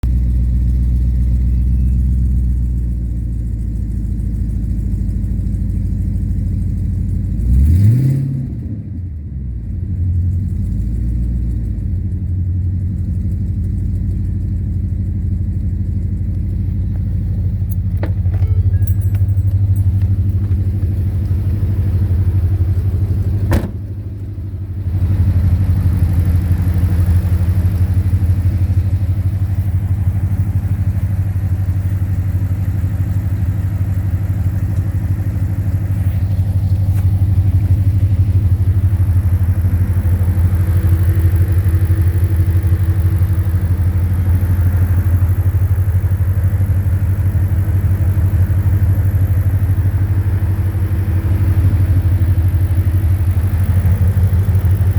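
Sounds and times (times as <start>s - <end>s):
car engine knocking: 9.6s - 54.9s.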